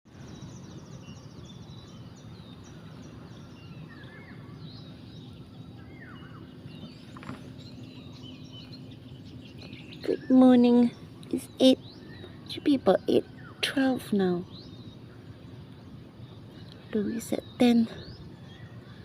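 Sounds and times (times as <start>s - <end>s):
low background rumble: 0.1s - 19.0s
low steady hum: 0.1s - 19.0s
small birds chirping: 0.1s - 19.0s.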